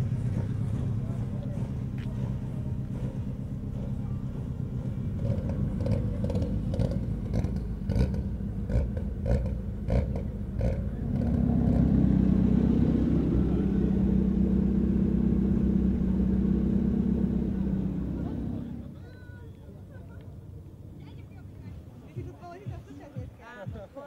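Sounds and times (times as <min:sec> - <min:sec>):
rally car engine running: 0:00.0 - 0:21.2.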